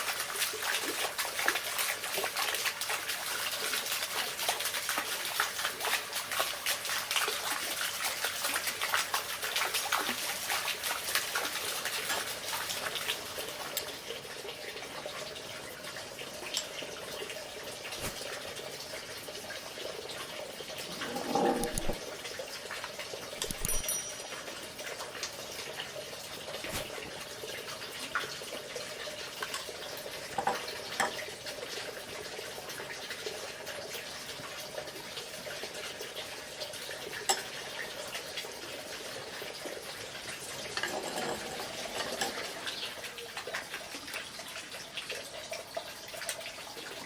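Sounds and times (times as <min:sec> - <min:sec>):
water trickling and splashing: 0:00.0 - 0:47.0.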